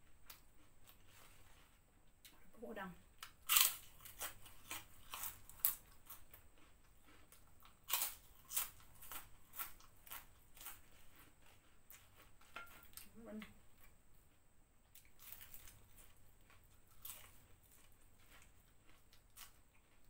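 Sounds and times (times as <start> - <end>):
crackers crunching while chewed: 3.2 - 13.1, 13.7 - 20.0.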